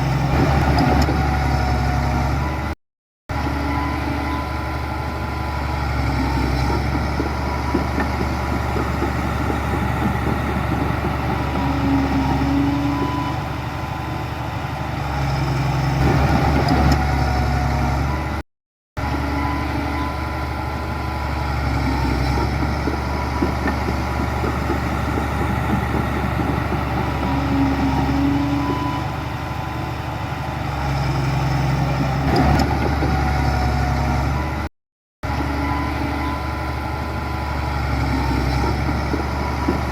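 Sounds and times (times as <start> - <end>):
heavy diesel engine running: 0.0 - 18.4, 19.0 - 39.9.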